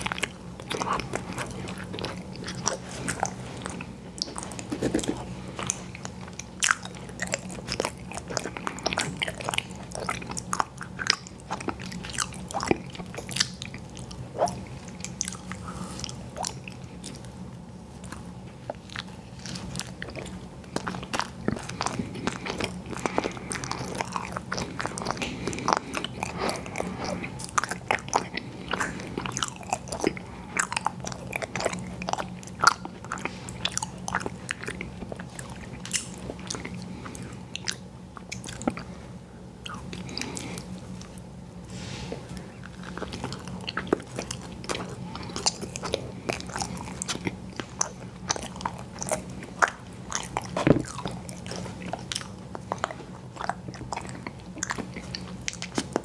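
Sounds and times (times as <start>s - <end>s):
person biting and chewing: 0.0s - 17.4s, 18.0s - 38.9s, 42.2s - 56.0s
faint low hum: 0.0s - 56.0s.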